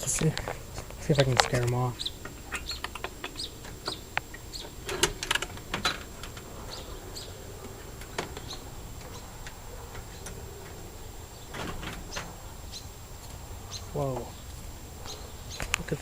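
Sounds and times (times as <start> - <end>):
bird chirping: 0.0 - 16.0
sharp clicks and knocks: 0.0 - 16.0.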